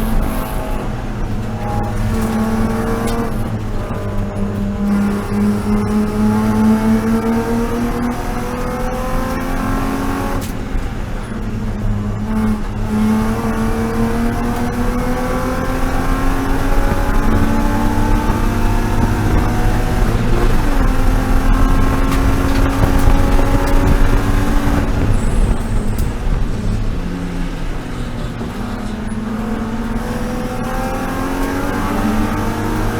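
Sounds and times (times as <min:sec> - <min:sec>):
race car engine accelerating: 0:00.0 - 0:32.9.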